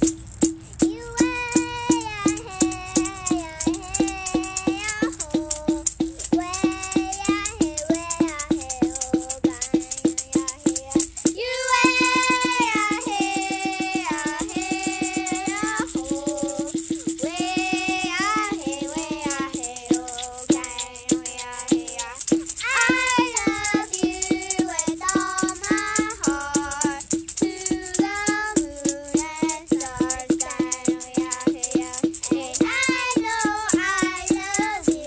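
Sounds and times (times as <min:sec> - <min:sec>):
handheld rattles shaking: 0:00.0 - 0:35.0
girls singing: 0:00.8 - 0:35.0.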